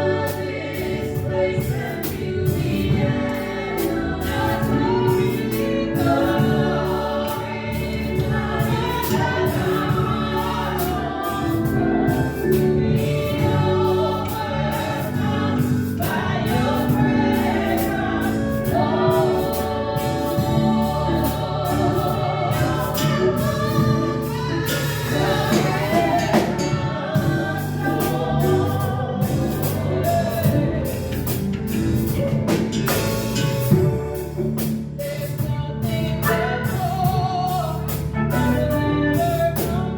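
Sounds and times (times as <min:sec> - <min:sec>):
band playing: 0:00.0 - 0:39.9
group singing a praise song: 0:00.0 - 0:39.9
steady drum beat: 0:00.0 - 0:39.9.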